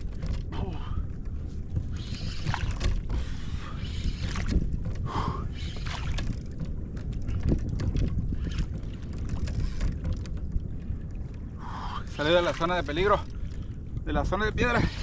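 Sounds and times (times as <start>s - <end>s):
water sloshing against kayak: 0.0s - 15.0s
wind buffeting microphone: 0.0s - 15.0s.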